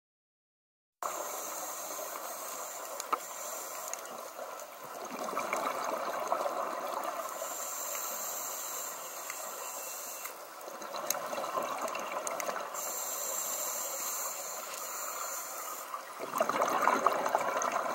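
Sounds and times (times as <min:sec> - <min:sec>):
muffled underwater hiss: 0:01.0 - 0:17.9.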